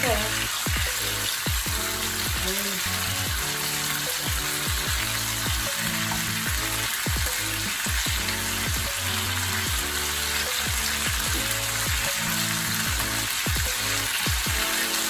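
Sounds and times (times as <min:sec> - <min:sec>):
background music with beat: 0:00.0 - 0:15.0
fish sizzling in a pan: 0:00.0 - 0:15.0.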